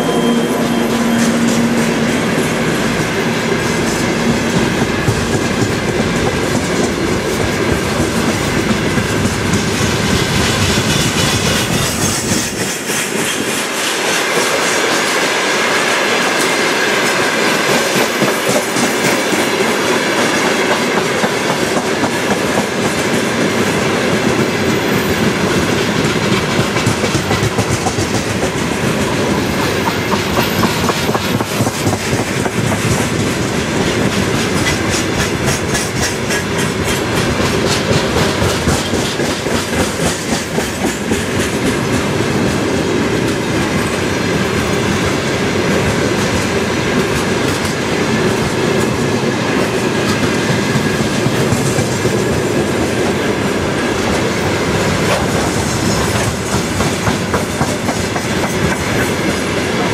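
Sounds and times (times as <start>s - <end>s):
freight train rumbling past: 0.0s - 59.9s
wheels clacking over rail joints: 0.8s - 15.3s, 16.2s - 59.9s.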